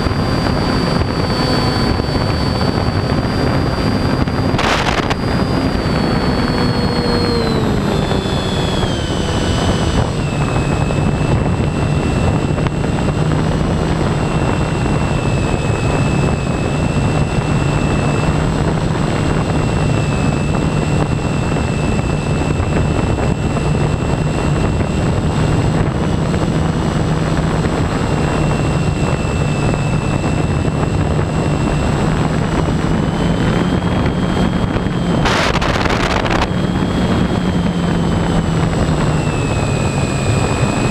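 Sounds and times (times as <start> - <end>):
model airplane motor whine: 0.0 - 40.9
wind rushing: 0.0 - 40.9.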